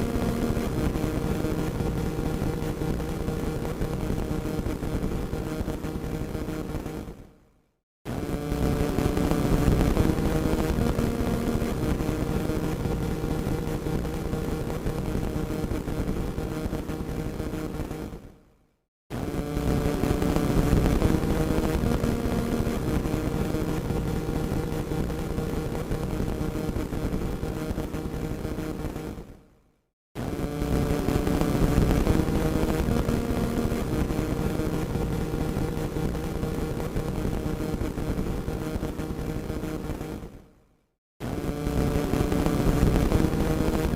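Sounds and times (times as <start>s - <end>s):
radio static hiss with crackles: 0.0s - 7.2s, 8.1s - 18.3s, 19.2s - 29.3s, 30.2s - 40.3s, 41.2s - 43.9s.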